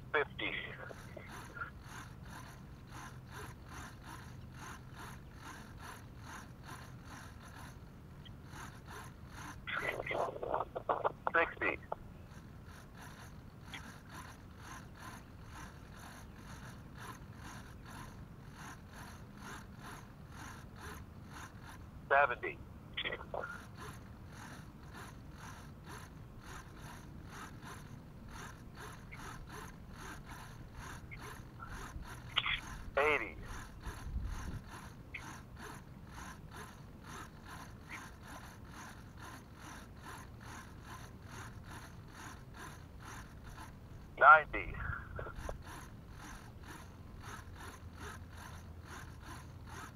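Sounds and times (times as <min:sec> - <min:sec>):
small servos whirring: 0:00.0 - 0:49.9.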